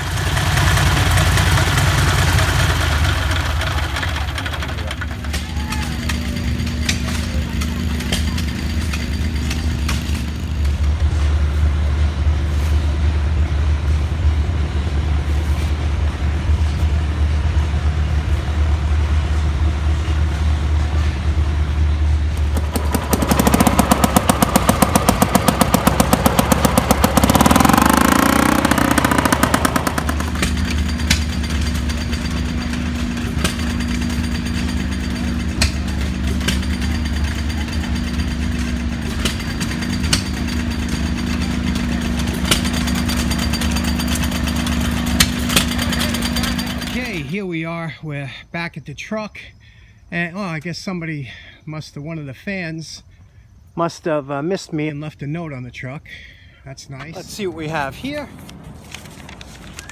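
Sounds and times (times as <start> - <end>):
loud engine beating fast: 0.0 - 47.4, 57.2 - 59.9
engine humming: 0.0 - 48.5, 53.8 - 59.9.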